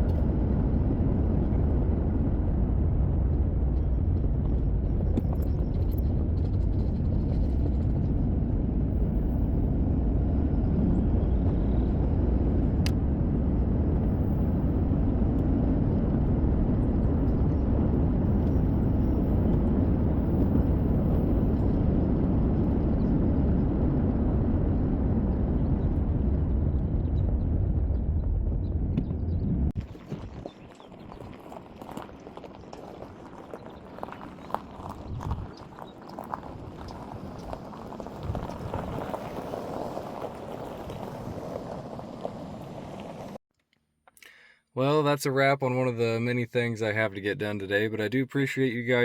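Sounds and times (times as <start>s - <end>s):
vehicle engine and road rumble: 0.0s - 43.4s.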